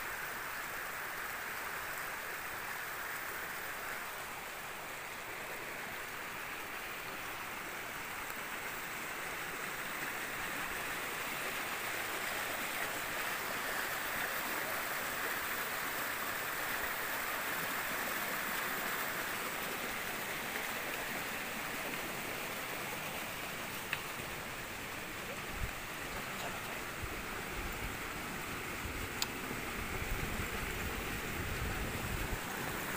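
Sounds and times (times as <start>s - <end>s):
flowing water rushing: 0.0s - 32.9s.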